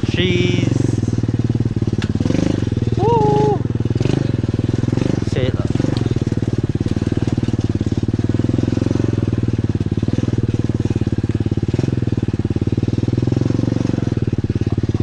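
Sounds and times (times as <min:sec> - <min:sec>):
single-cylinder engine running: 0:00.0 - 0:15.0.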